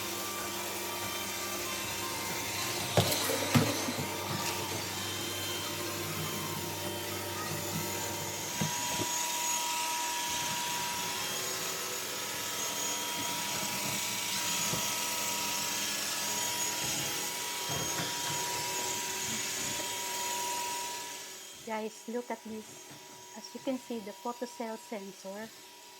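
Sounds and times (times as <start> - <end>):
robot vacuum motor and fan hiss: 0.0 - 25.9.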